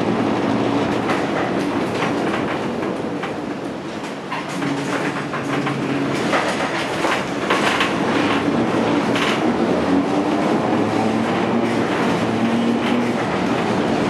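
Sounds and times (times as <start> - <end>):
electric tram humming and rattling: 0.0 - 14.0
wheels clicking on rails: 0.0 - 14.0.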